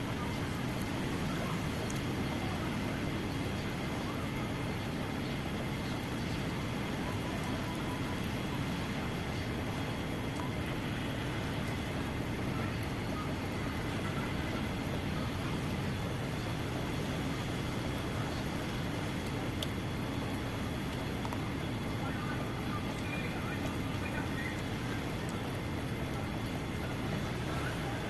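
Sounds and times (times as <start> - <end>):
faint whines: 0.0 - 28.0.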